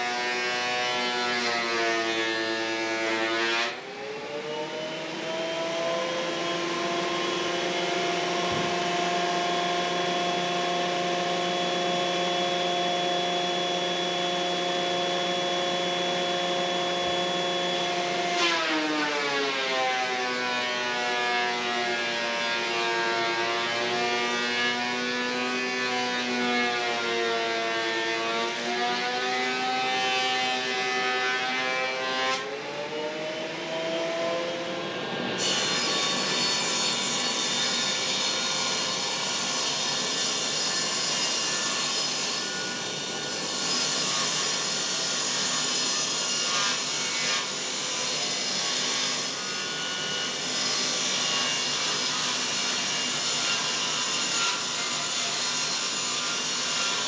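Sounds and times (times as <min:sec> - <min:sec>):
power saw cutting wood: 0:00.0 - 0:57.0.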